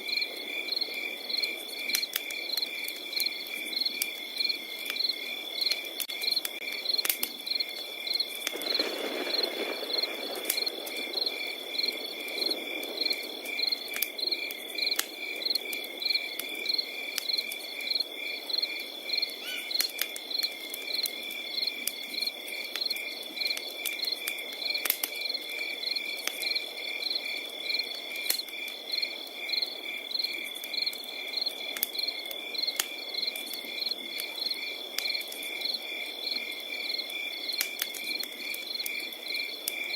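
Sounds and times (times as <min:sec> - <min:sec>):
crickets chirping: 0:00.0 - 0:39.9
wood fire crackling and popping: 0:00.0 - 0:39.9
cricket trilling: 0:00.1 - 0:39.9.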